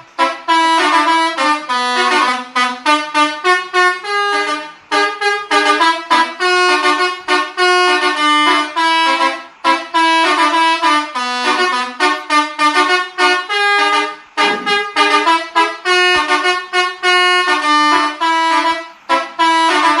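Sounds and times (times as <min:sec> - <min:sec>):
bus horn playing a fast tune: 0:00.0 - 0:20.0.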